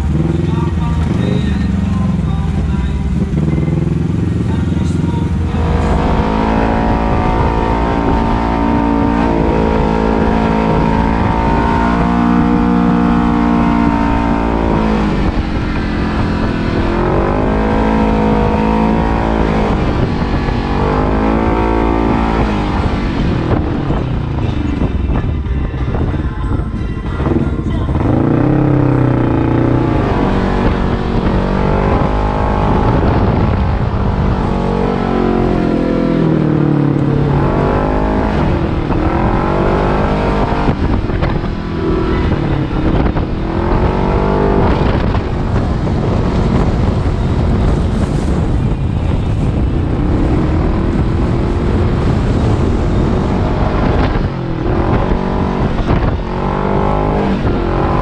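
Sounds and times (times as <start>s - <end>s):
engine revving under throttle: 0.0s - 24.9s, 27.3s - 58.0s.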